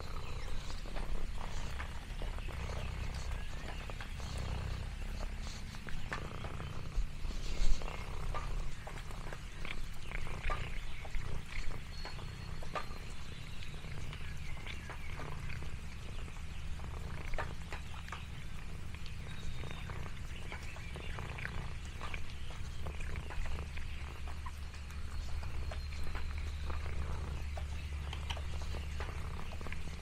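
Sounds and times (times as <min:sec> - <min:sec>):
cat purring: 0:00.0 - 0:30.0
small clicks and crackles: 0:00.0 - 0:30.0.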